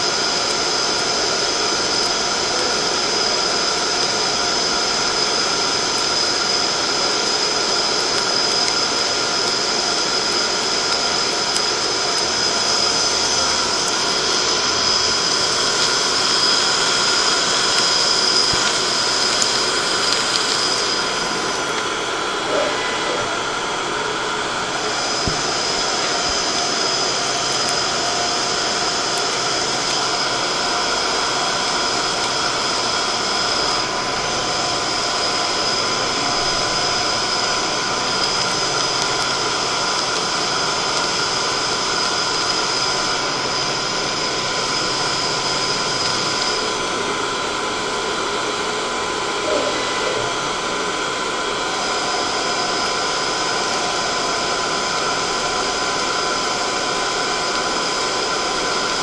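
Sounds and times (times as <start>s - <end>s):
high machine whine: 0.0s - 59.0s
machine running: 0.0s - 59.0s.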